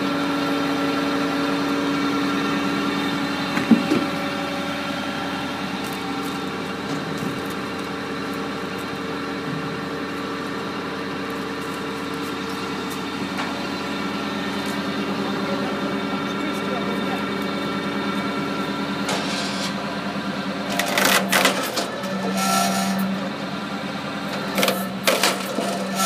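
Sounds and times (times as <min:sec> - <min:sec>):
hydraulic power unit running: 0:00.0 - 0:26.0.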